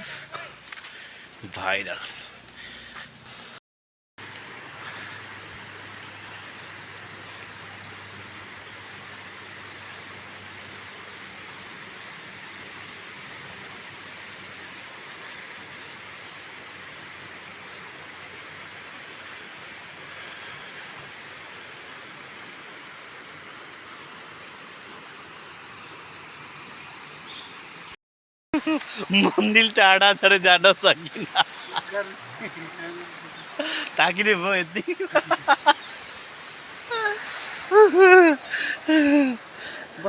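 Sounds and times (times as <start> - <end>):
outdoor hiss: 0.0 - 3.6, 4.2 - 28.0, 28.6 - 40.0
pulsing high insect call: 0.0 - 3.6, 4.2 - 28.0, 28.6 - 40.0
insect trilling: 4.2 - 27.9, 28.6 - 40.0.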